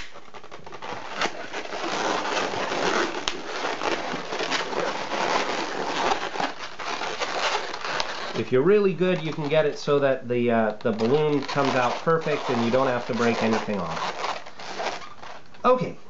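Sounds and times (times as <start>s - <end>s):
balloons rubbing and crackling: 0.0s - 16.0s.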